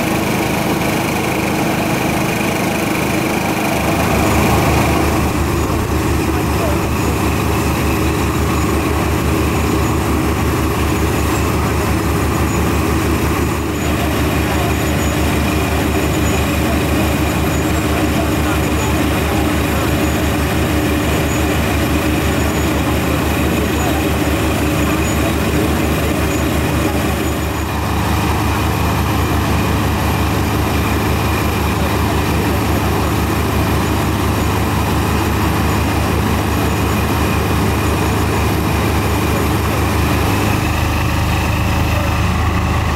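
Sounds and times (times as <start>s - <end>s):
drilling rig and compressor running: 0.0s - 42.9s.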